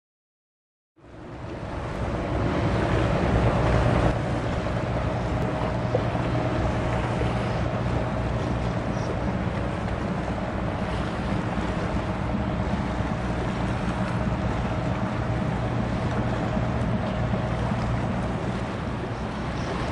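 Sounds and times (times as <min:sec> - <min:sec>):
ship diesel engine drone: 0:01.0 - 0:19.9
bow wave rushing: 0:01.1 - 0:19.9.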